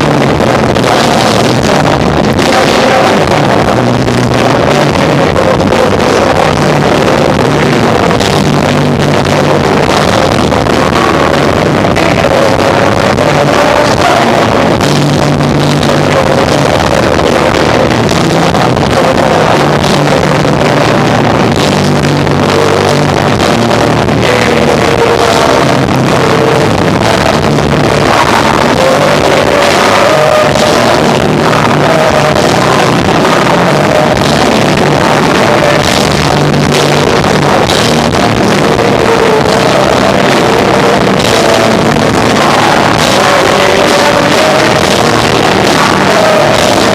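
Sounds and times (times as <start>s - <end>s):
distorted live rock band: 0.0s - 46.9s.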